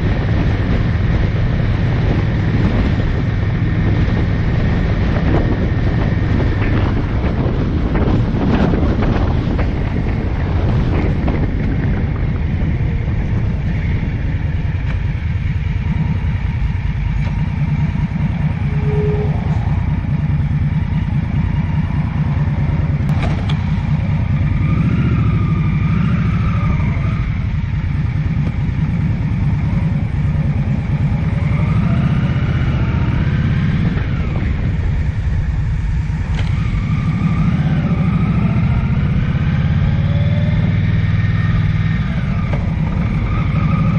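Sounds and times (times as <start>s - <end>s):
vehicle engine rumbling: 0.0s - 43.9s.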